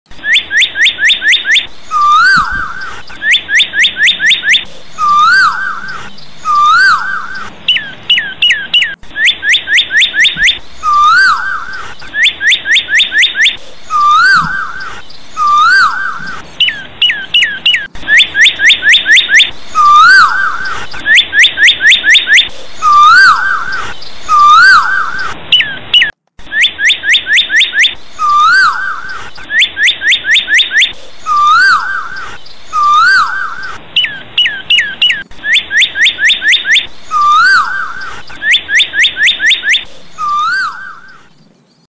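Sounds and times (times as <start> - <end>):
songbird whistling: 0.2 - 41.8.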